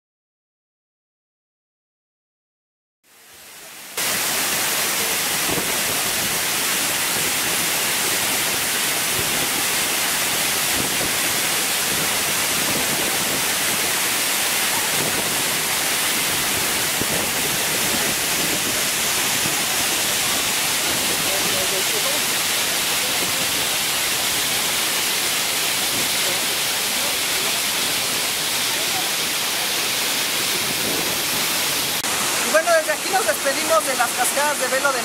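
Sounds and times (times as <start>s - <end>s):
waterfall rushing: 3.1s - 35.0s.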